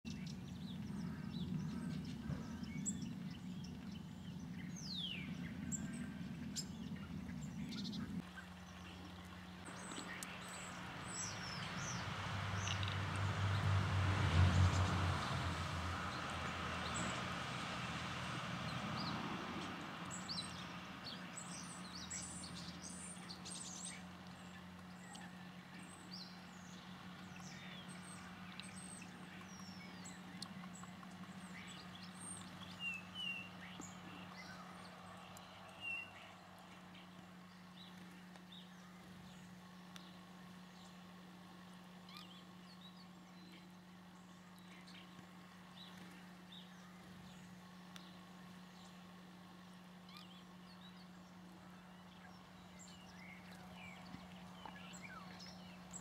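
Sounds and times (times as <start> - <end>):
small birds chirping: 0.0 - 56.0
steady low hum: 0.1 - 56.0.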